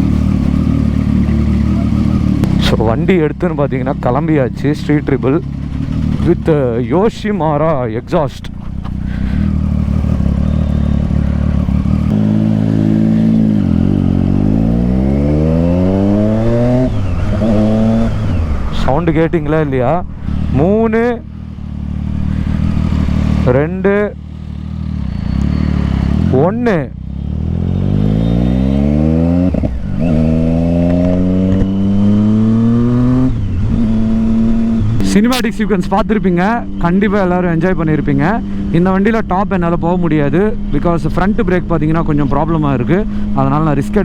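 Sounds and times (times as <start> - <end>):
motorcycle engine accelerating: 0.0 - 44.0
quick gear upshifts: 0.0 - 44.0.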